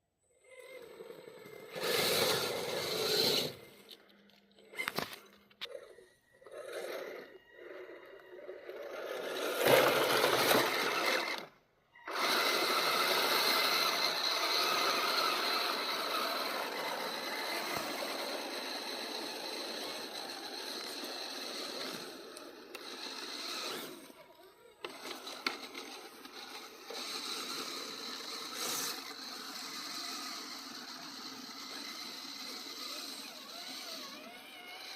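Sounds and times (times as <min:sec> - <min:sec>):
toy car motor and gears whining: 0:00.2 - 0:34.9.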